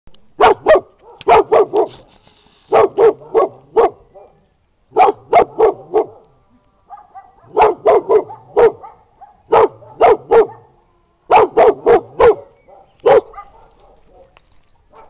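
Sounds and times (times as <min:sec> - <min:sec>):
dog barking: 0:00.4 - 0:02.0, 0:02.7 - 0:06.3, 0:06.9 - 0:15.0.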